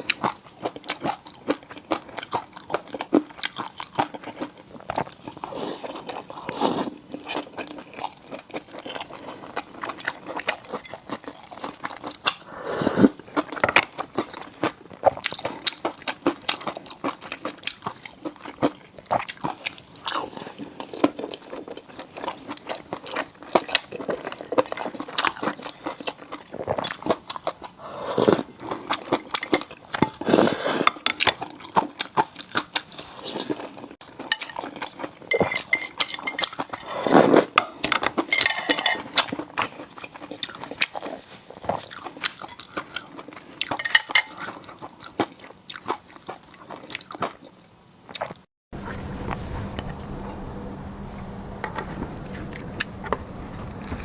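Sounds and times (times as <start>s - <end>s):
close chewing and biting food: 0.0s - 48.5s.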